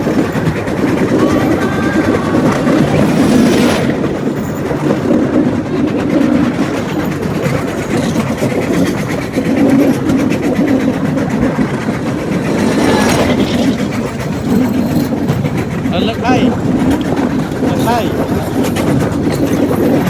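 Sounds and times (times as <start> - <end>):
rail cart rattling on track: 0.0 - 20.0.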